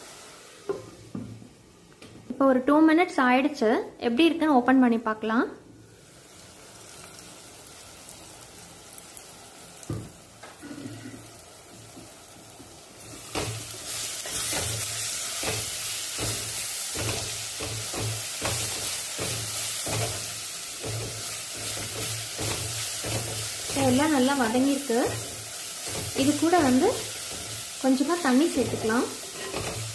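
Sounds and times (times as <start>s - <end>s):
masala sizzling in a pot: 0.0s - 3.5s, 4.2s - 29.9s.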